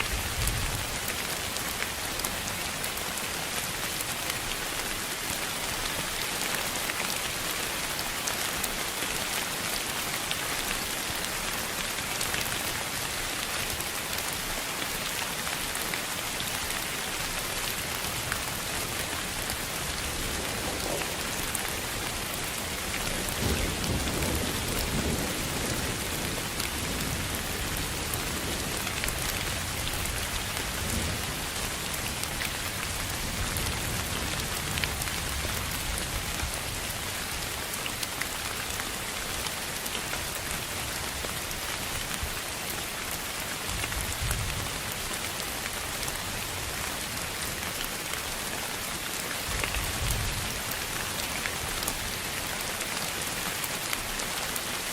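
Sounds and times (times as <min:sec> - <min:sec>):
pink noise like rain: 0:00.0 - 0:54.9.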